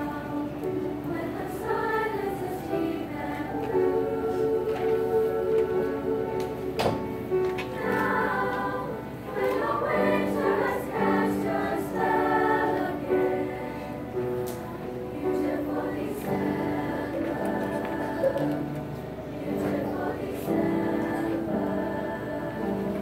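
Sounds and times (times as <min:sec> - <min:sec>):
girls' choir singing: 0:00.0 - 0:23.0.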